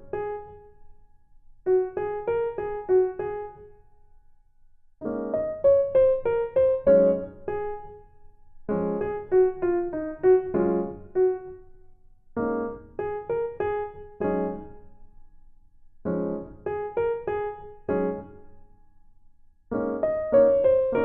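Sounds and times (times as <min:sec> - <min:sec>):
piano melody: 0:00.0 - 0:01.0, 0:01.6 - 0:03.9, 0:05.0 - 0:15.2, 0:16.0 - 0:18.8, 0:19.7 - 0:21.0.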